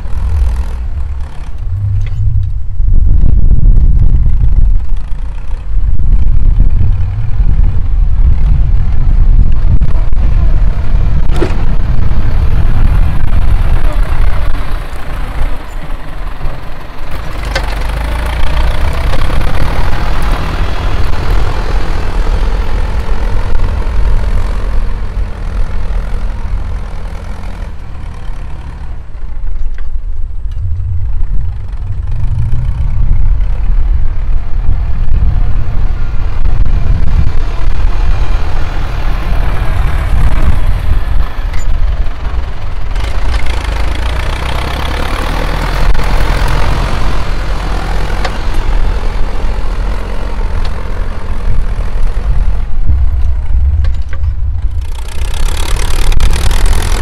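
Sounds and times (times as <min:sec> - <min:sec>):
tractor diesel engine pulling: 0:00.0 - 0:57.0.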